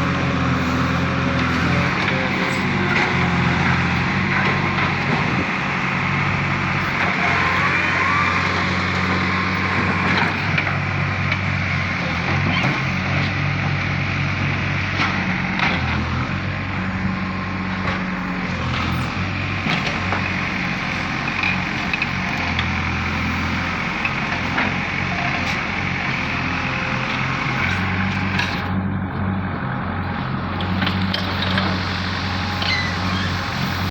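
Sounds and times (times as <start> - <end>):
diesel engine digging: 0.0 - 33.9.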